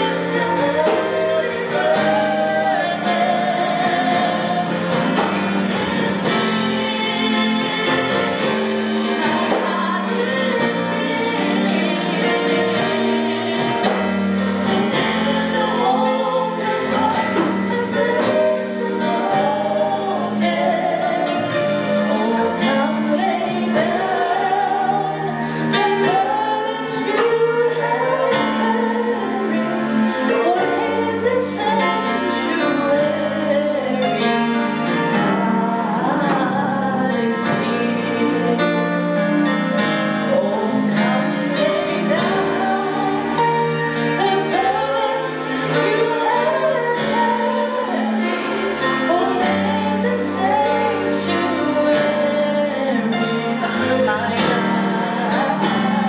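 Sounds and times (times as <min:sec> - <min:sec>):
bass guitar: 0:00.0 - 0:56.0
keyboard: 0:00.0 - 0:56.0
woman singing gospel song: 0:00.0 - 0:56.0.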